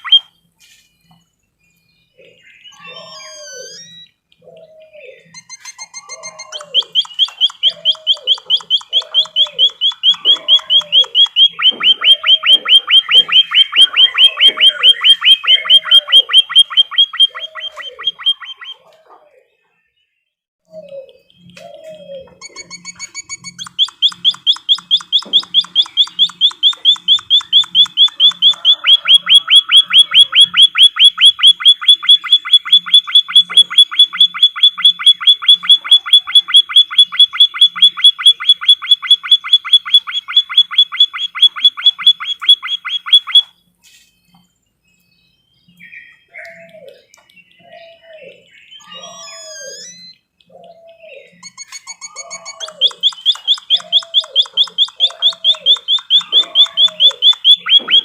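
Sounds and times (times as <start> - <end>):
bird chirps and calls: 0.0 - 19.7, 20.6 - 58.0
songbird trilling: 2.0 - 18.9, 20.7 - 43.6, 45.6 - 58.0.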